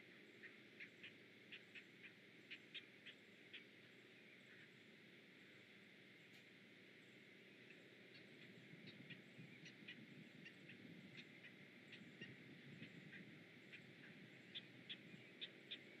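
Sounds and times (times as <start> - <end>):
low steady rumble: 0.0 - 16.0
faint high bird chirps: 0.3 - 4.8, 7.4 - 16.0.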